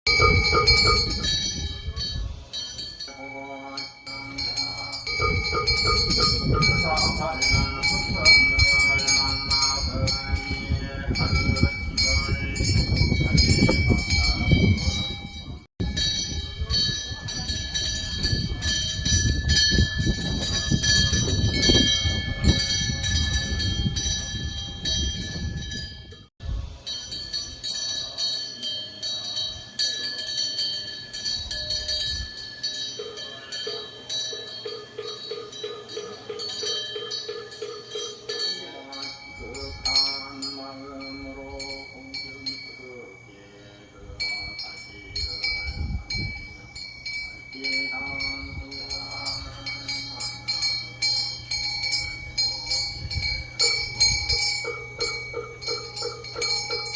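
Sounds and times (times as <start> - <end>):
wind bell tinkling: 0.1 - 56.9.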